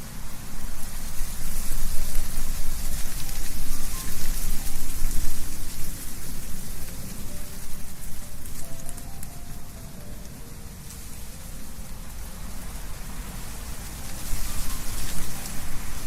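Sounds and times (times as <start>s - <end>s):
leaves rustling: 0.0s - 16.0s
wind rumble: 0.0s - 16.0s.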